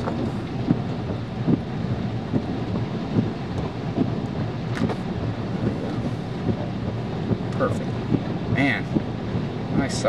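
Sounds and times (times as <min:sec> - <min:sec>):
hailstorm roar: 0:00.0 - 0:09.8.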